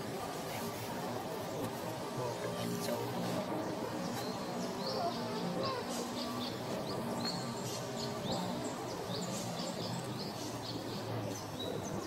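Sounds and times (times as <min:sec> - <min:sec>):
steady background hiss: 0:00.0 - 0:12.0
birds chirping: 0:01.2 - 0:12.0.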